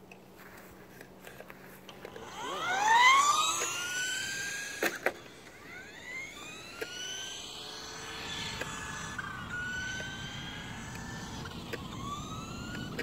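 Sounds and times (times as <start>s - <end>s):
toy car motor whining: 1.2s - 13.0s.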